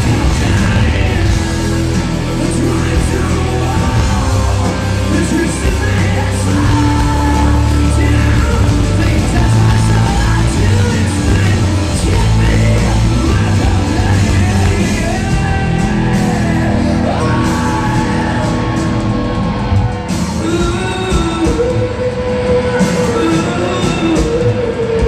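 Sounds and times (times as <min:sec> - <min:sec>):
distorted electric guitars: 0:00.0 - 0:25.0
live hard rock band playing: 0:00.0 - 0:25.0
person shouting and singing: 0:00.0 - 0:25.0.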